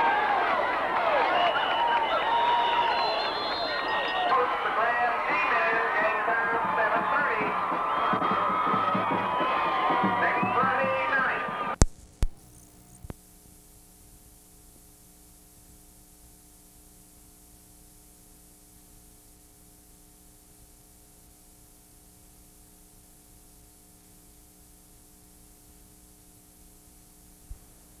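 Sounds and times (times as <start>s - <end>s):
tape hiss with low hum: 0.0s - 28.0s.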